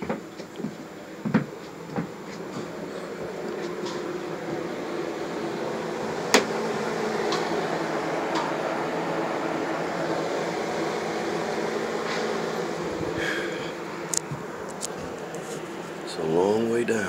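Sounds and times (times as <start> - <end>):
mechanical whir with hum: 0.0 - 17.0.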